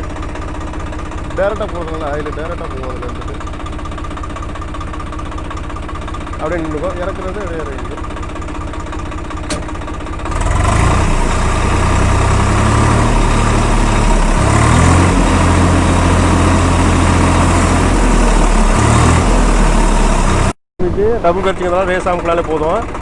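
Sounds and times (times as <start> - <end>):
tractor engine idling and revving: 0.0 - 23.0.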